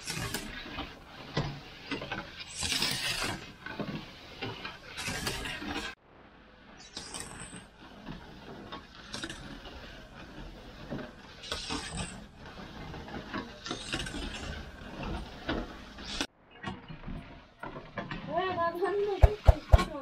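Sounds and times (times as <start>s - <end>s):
wooden paddle scraping iron pan: 0.0s - 6.0s, 6.8s - 16.9s, 17.6s - 20.0s.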